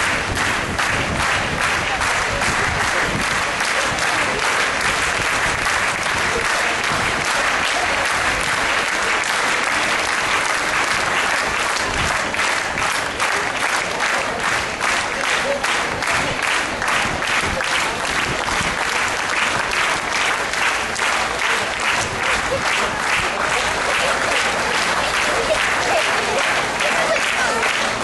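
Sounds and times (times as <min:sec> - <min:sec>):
crowd clapping steadily: 0:00.0 - 0:28.0.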